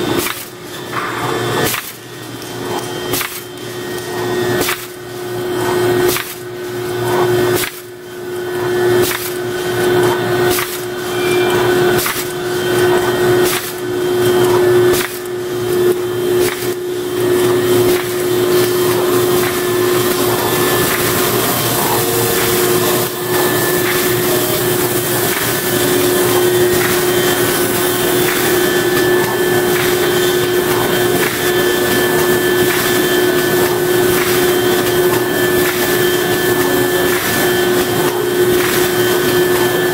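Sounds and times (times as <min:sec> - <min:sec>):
bag-making machine humming: 0:00.0 - 0:39.9.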